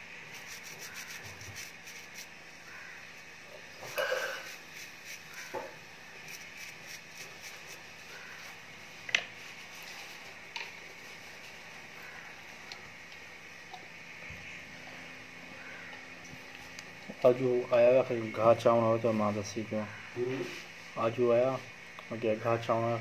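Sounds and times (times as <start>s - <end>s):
low room noise: 0.0s - 23.0s.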